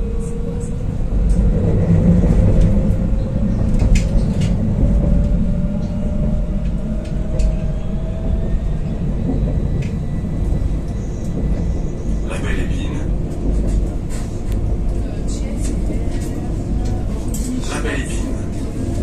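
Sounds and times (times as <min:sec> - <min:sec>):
tram wheels rumbling on rail: 0:00.0 - 0:19.0.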